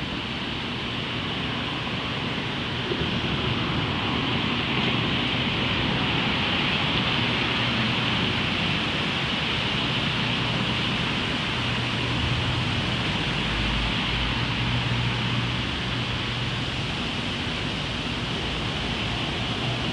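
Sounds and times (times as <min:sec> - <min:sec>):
distant traffic hiss: 0:00.0 - 0:19.9.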